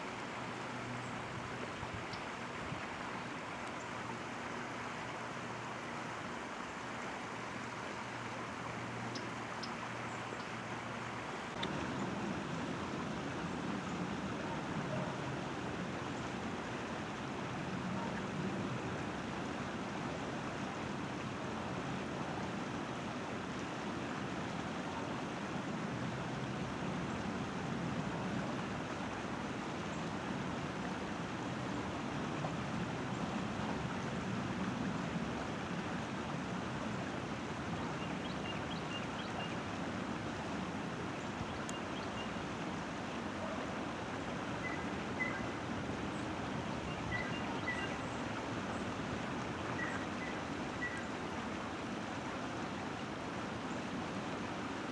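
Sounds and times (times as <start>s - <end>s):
outdoor ambient noise: 0.0s - 54.9s.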